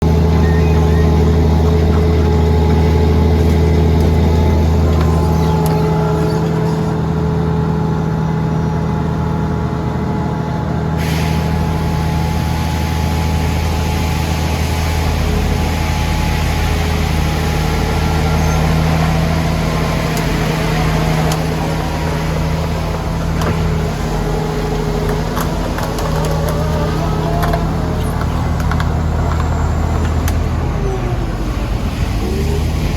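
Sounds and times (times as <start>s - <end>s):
diesel engine humming: 0.0s - 32.9s.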